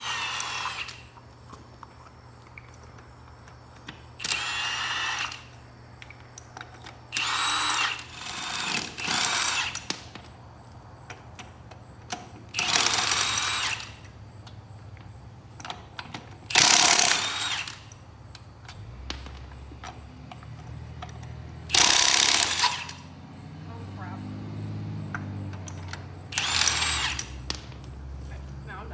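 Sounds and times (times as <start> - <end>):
power tool whining: 0.0 - 1.6, 2.9 - 28.9.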